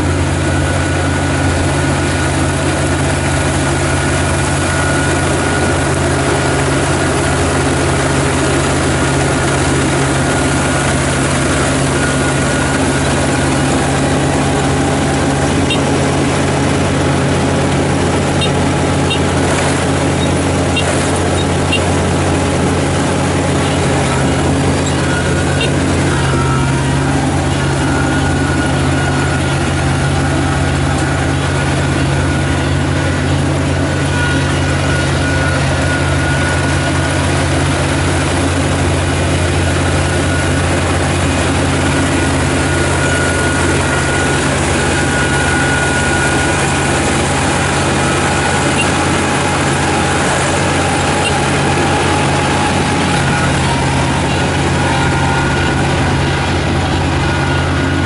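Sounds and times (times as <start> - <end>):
combine harvester engine humming: 0.0 - 58.0.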